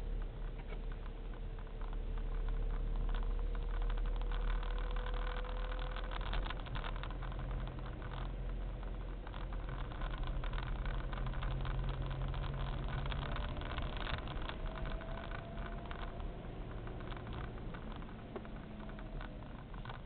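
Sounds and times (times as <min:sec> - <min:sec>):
car engine hum: 0:00.0 - 0:20.0
faint clicks: 0:00.0 - 0:20.0
road noise: 0:00.0 - 0:20.0.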